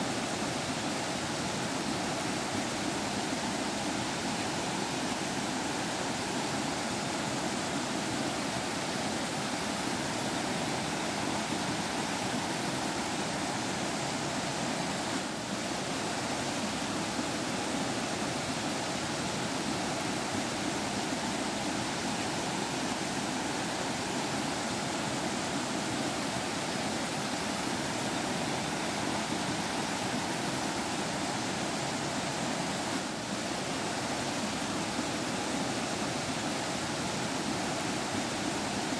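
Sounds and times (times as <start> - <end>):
forest stream babbling: 0.0 - 38.9.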